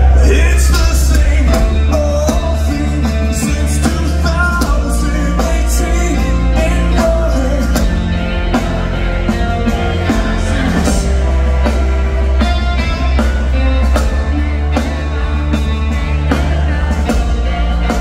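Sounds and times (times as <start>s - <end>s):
bass guitar: 0.0s - 18.0s
distorted electric guitars: 0.0s - 18.0s
drums: 0.0s - 18.0s
person singing: 0.0s - 18.0s.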